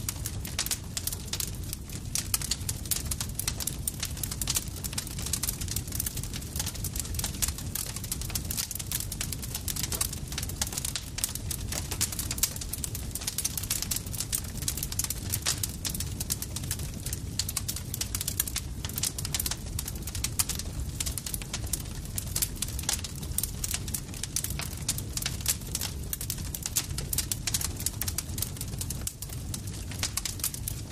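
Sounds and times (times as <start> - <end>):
low rumble of flame: 0.0 - 30.9
wood crackling and popping: 0.0 - 30.9.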